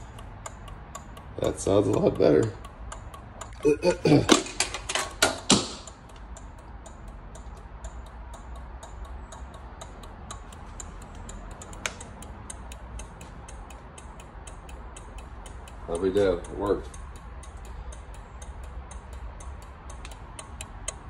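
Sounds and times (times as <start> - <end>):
turn signal relay ticking: 0.0 - 21.0.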